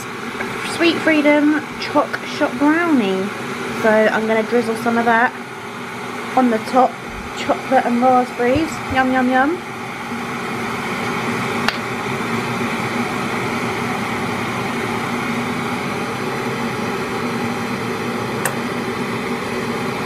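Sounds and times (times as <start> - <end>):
electric kettle heating: 0.0 - 20.0.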